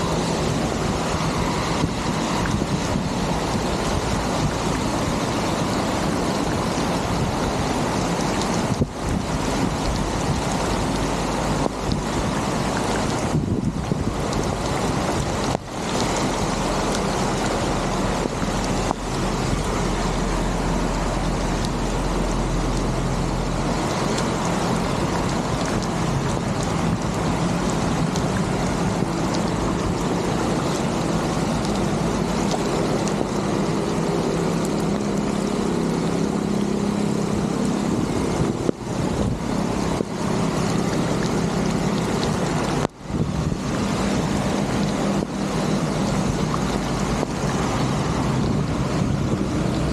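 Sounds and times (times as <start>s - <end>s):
heavy rain: 0.0s - 49.9s
water rushing through culvert: 0.0s - 49.9s.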